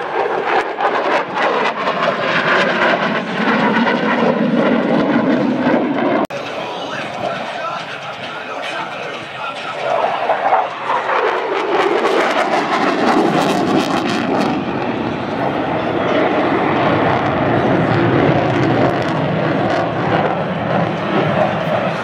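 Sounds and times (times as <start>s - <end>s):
aircraft engine passing overhead: 0.0s - 22.0s.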